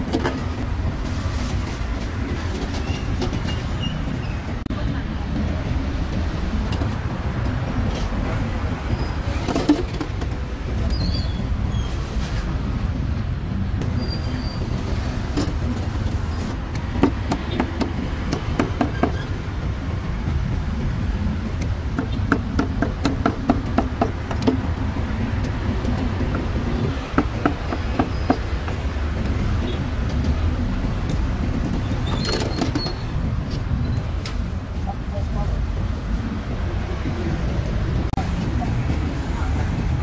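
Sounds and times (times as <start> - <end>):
low street rumble: 0.0 - 40.0.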